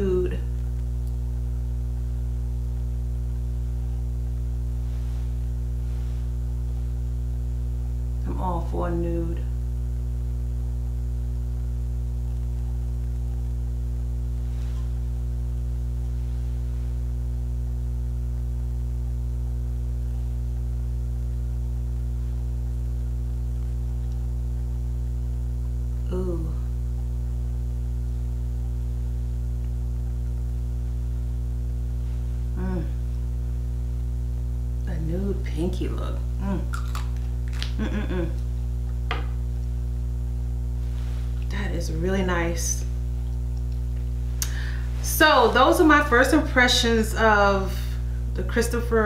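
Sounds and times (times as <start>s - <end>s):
mains hum: 0.0s - 49.0s.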